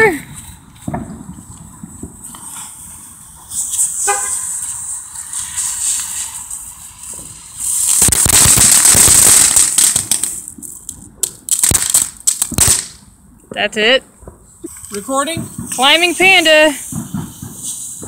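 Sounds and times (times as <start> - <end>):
firework hissing and spraying sparks: 0.0 - 13.1, 14.4 - 18.0
firework crackling pops: 0.0 - 18.0.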